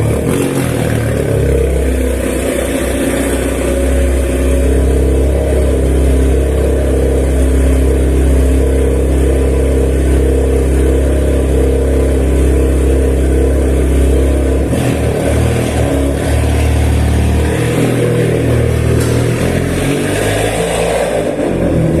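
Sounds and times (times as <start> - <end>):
loud car engine running: 0.0 - 22.0.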